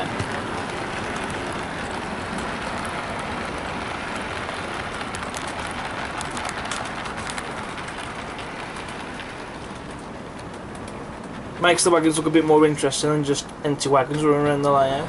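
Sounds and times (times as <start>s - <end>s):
clicks over rail joints: 0.0s - 15.0s
model train wheels rattling on rail: 0.0s - 15.0s.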